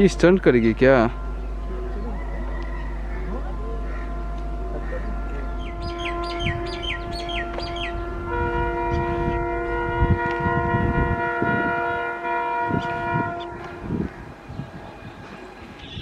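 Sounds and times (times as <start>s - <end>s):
birds chirping: 0.0s - 9.9s, 11.1s - 16.0s
locomotive horn blast: 0.0s - 16.0s
low thumps of approaching train: 0.0s - 16.0s.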